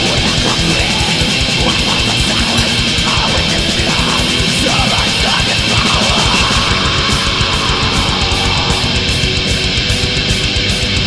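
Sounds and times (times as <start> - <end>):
distorted electric guitar: 0.0 - 11.0
rapid drumming: 0.0 - 11.0.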